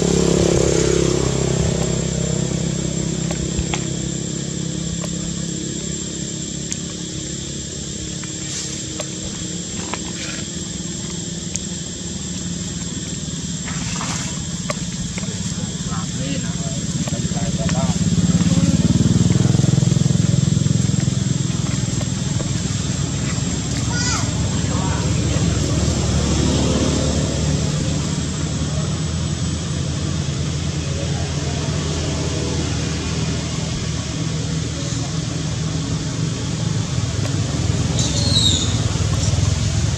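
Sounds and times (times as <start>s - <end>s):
engine rumbling: 0.0s - 39.9s.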